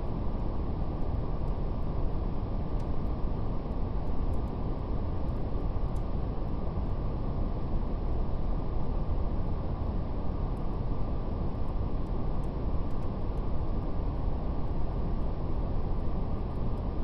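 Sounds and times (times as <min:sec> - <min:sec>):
faint fire crackle: 0:00.0 - 0:17.0.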